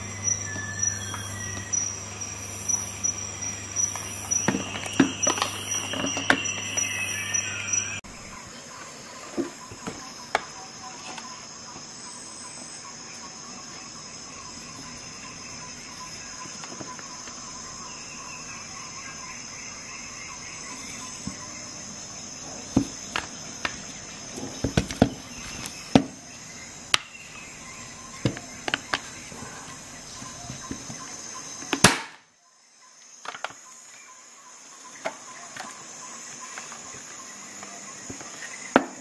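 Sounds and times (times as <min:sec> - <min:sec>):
high-pitched whine and hiss: 0:00.0 - 0:39.0.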